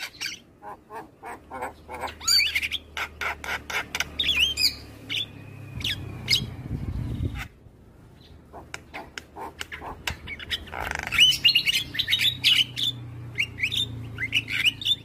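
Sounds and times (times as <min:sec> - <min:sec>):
bird squawking and whistling: 0:00.0 - 0:06.6, 0:08.6 - 0:15.0.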